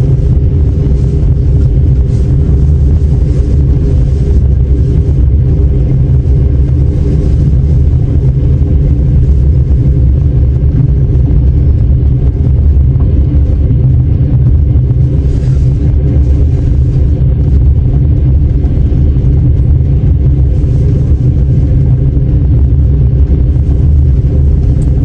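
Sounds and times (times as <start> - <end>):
train carriage rumbling on track: 0.0 - 25.0.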